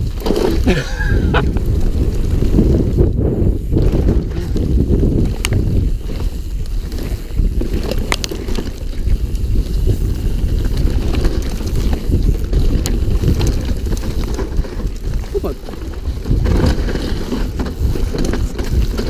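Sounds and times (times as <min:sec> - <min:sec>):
sharp bike clicks: 0:00.0 - 0:19.0
tyre rumble on dirt: 0:00.0 - 0:19.0
wind buffeting microphone: 0:00.0 - 0:19.0.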